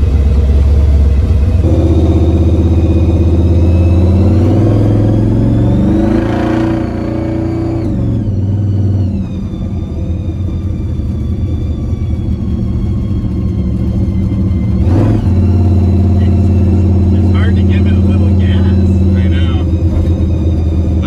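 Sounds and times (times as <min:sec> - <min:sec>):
car engine revving: 0:00.0 - 0:21.0
high supercharger whine: 0:00.0 - 0:21.0.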